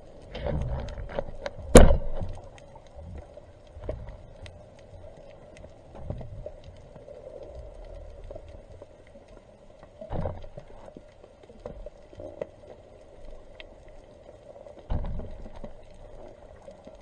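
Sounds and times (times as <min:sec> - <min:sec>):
muffled underwater rumble: 0:00.0 - 0:17.0
small clicks and crackles: 0:00.0 - 0:17.0.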